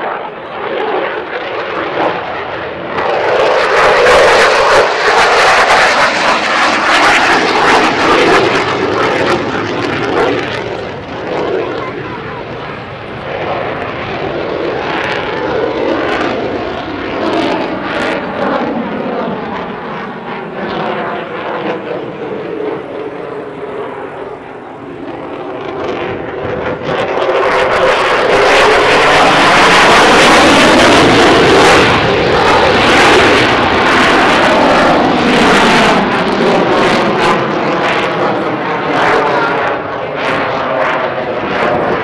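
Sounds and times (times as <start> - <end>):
jet engine rushing: 0.0 - 42.0.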